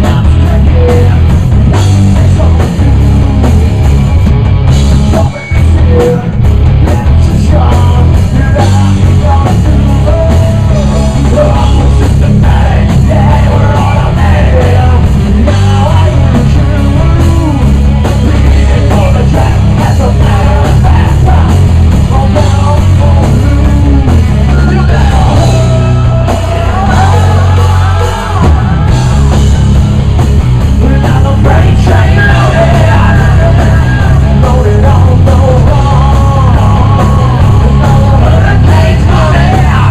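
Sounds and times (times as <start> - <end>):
sung vocals: 0.0 - 29.8, 30.6 - 39.9
live rock band playing: 0.0 - 39.9.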